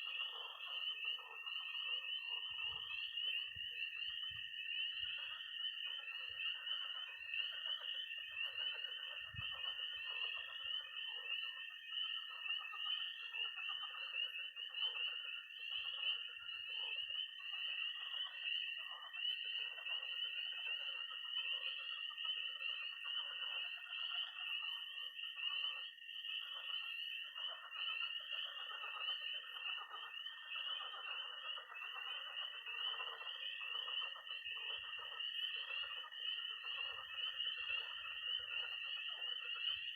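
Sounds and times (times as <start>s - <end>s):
frogs croaking: 0.0s - 39.9s
spring peepers peeping: 0.0s - 39.9s.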